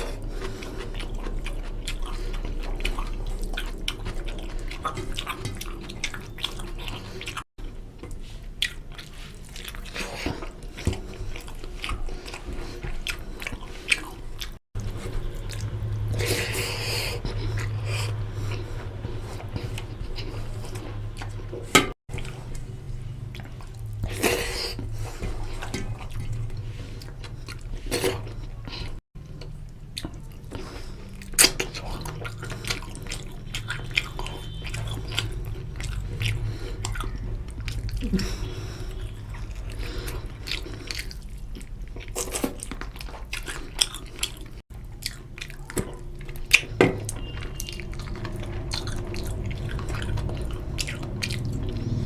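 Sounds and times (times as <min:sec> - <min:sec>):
close chewing and biting: 0:00.0 - 0:52.0.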